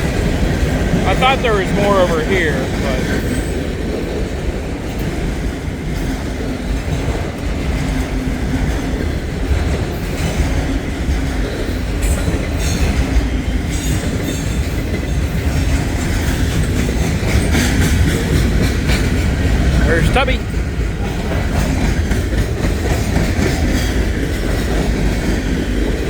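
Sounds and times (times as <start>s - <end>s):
freight train rumbling: 0.0s - 26.0s
wheels clicking over rail joints: 0.0s - 26.0s.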